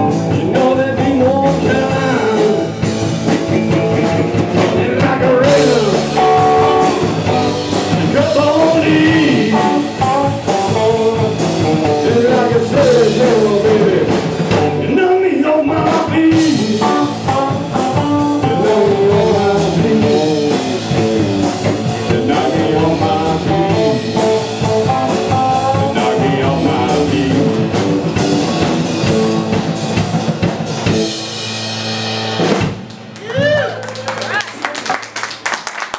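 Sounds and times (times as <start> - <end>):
electric guitar bending: 0.0 - 33.2
blues rock band playing: 0.0 - 34.4.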